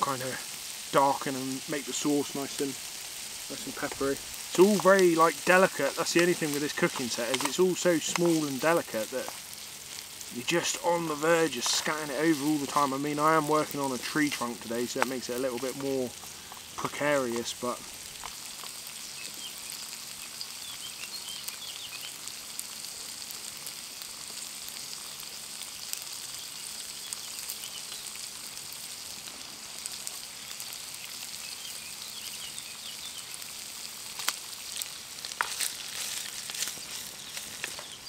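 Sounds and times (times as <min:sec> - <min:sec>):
bacon sizzling in oil: 0:00.0 - 0:38.0.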